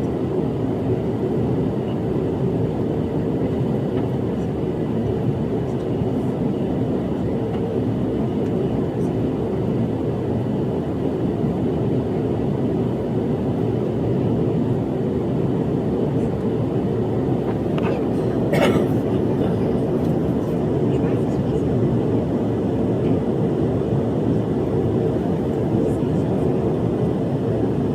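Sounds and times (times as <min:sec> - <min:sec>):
airplane engine rumble: 0:00.0 - 0:27.9.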